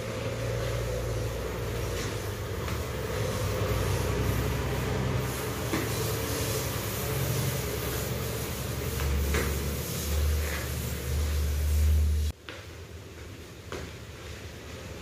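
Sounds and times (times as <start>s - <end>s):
low mechanical rumble: 0.0s - 12.4s.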